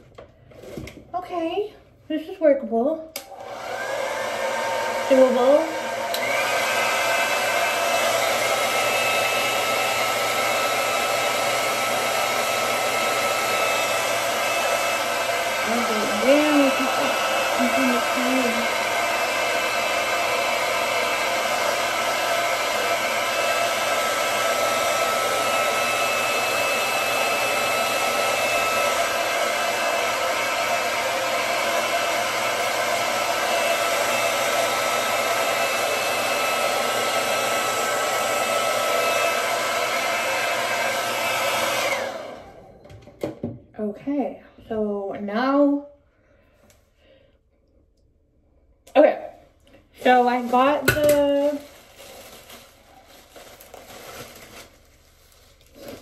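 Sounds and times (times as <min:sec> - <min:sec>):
hair dryer blowing: 0:03.2 - 0:44.3, 0:48.9 - 0:56.0.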